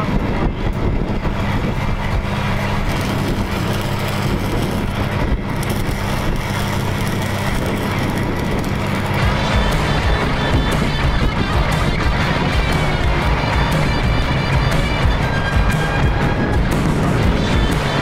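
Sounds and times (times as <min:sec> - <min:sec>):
welding arc crackling: 0:00.0 - 0:18.0
welding machine engine running: 0:00.0 - 0:18.0.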